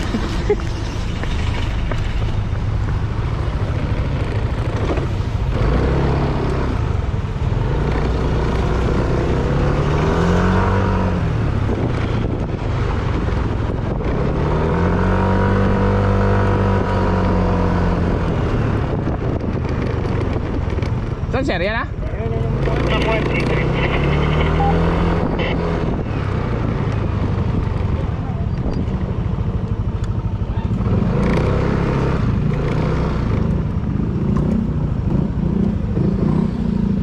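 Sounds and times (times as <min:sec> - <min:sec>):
motorcycle engine revving: 0:00.0 - 0:37.0
wind and road noise: 0:00.0 - 0:37.0.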